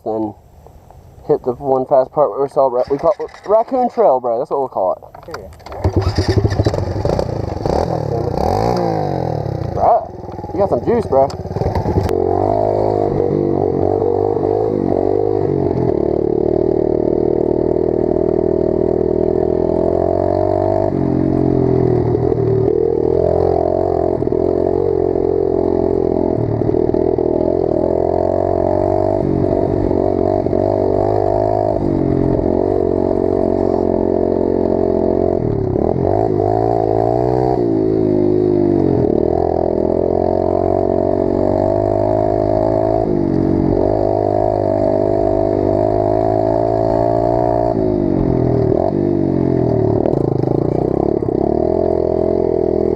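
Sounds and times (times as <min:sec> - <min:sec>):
pit bike engine revving: 0:01.8 - 0:04.3, 0:05.3 - 0:52.9.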